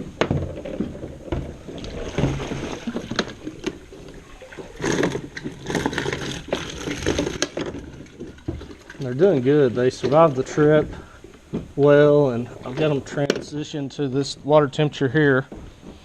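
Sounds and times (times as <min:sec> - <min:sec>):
water sloshing and splashing: 0:00.0 - 0:14.8.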